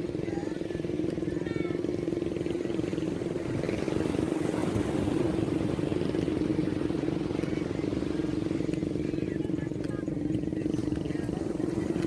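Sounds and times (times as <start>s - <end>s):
small engine running: 0.0s - 12.0s
waves breaking on beach: 0.0s - 12.0s.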